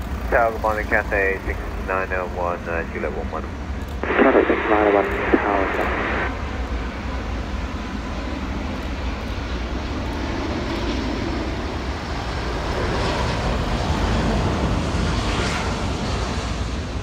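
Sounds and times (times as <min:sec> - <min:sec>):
jet engines roaring overhead: 0:00.0 - 0:17.0.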